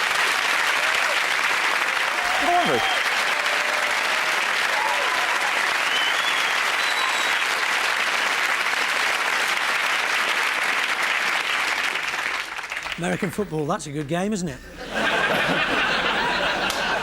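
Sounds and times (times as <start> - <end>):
audience applauding: 0.0 - 13.5, 15.0 - 17.0.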